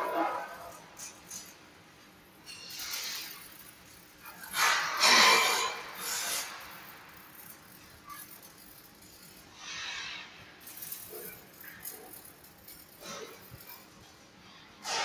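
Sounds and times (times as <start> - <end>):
arc welding crackling and hissing: 0.0 - 15.0.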